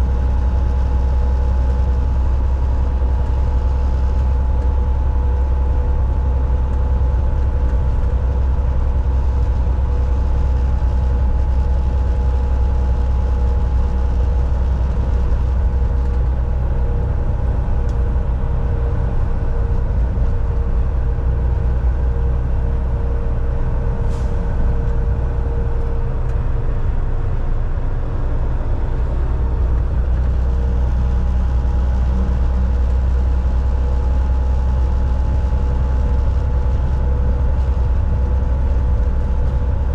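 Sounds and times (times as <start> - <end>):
road noise whine: 0.0 - 39.9
truck diesel engine rumble: 0.0 - 39.9.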